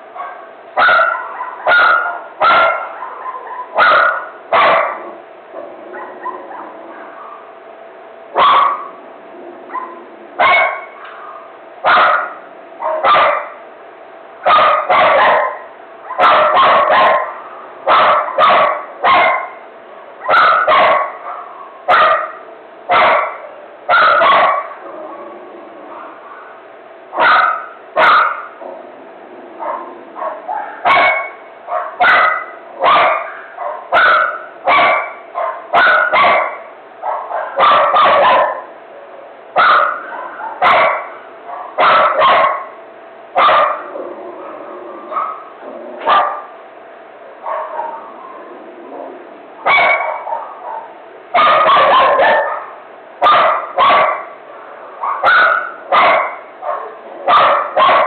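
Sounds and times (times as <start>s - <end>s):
dog barking: 0.2s - 5.2s, 5.9s - 7.6s, 8.4s - 9.0s, 9.7s - 13.6s, 14.4s - 19.6s, 20.2s - 25.3s, 25.9s - 26.6s, 27.2s - 28.8s, 29.6s - 38.7s, 39.6s - 42.8s, 43.4s - 46.6s, 47.4s - 48.4s, 49.6s - 58.0s.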